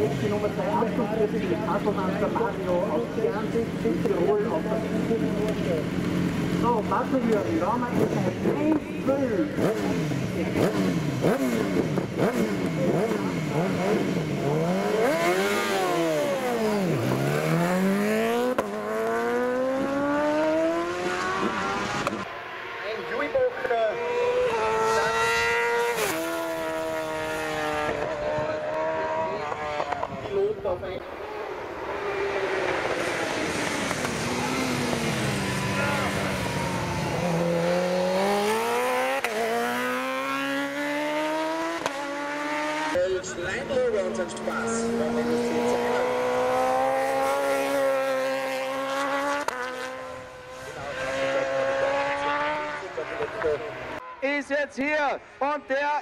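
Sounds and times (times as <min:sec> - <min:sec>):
racing motorcycle engine accelerating: 0:00.0 - 0:54.2.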